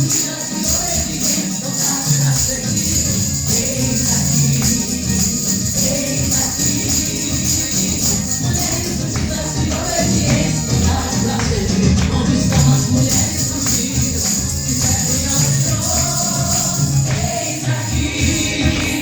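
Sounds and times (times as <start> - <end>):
gospel song with singing: 0.0 - 19.0
jingling tambourine: 0.0 - 19.0.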